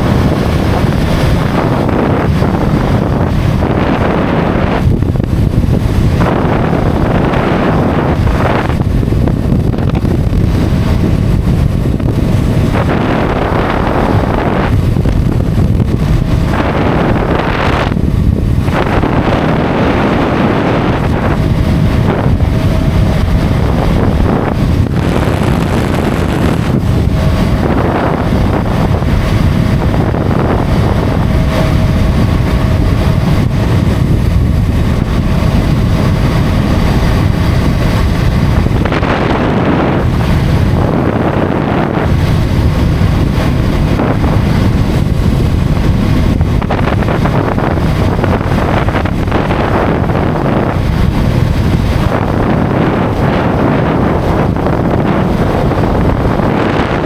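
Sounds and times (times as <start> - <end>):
motorcycle engine: 0.0 - 57.0
road noise: 0.0 - 57.0
wind rushing over microphone: 0.0 - 57.0.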